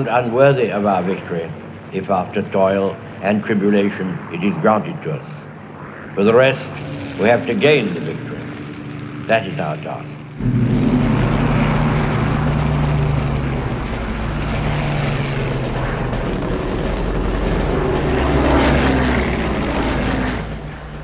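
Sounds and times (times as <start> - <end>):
propeller aircraft engine drone: 0.0 - 21.0.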